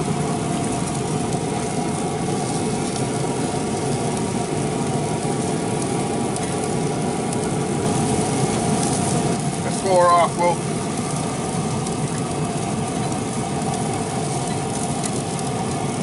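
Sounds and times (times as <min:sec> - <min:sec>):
fan motor humming: 0:00.0 - 0:16.0
rushing haze: 0:00.0 - 0:16.0.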